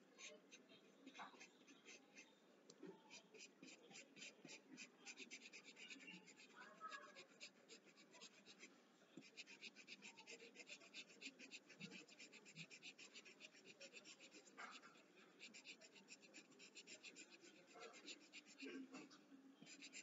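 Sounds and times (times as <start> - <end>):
pencil scratching on paper: 0.0 - 2.3, 3.0 - 20.0.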